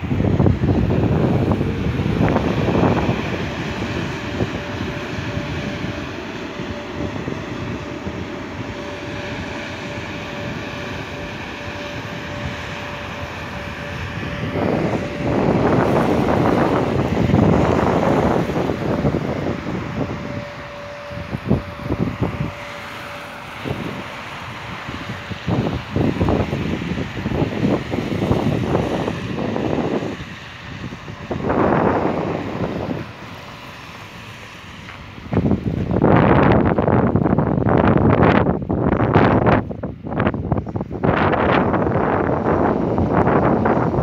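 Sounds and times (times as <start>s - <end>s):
electric locomotive whine: 0.0s - 44.0s
freight train rumble: 0.0s - 44.0s
rush of noise: 0.0s - 44.0s.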